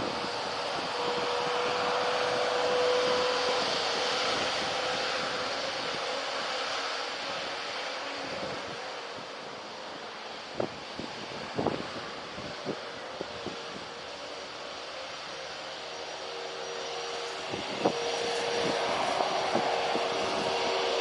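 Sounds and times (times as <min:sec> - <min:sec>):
faint jet whine: 0:00.0 - 0:21.0
jet engines roaring past: 0:00.0 - 0:21.0.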